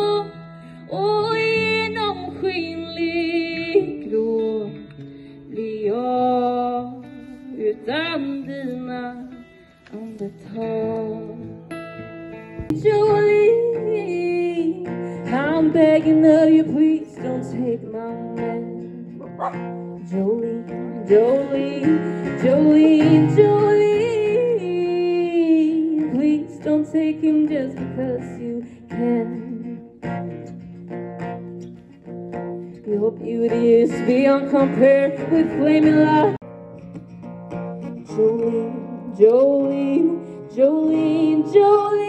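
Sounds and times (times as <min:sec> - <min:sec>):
woman singing: 0:00.0 - 0:36.4, 0:37.8 - 0:42.0
strummed acoustic guitar: 0:00.0 - 0:42.0.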